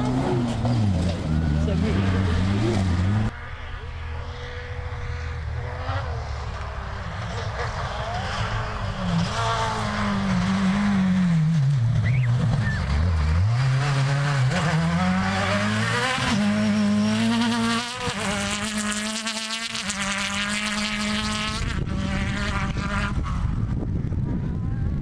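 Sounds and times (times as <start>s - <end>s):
rally car engine revving: 0.0s - 24.1s.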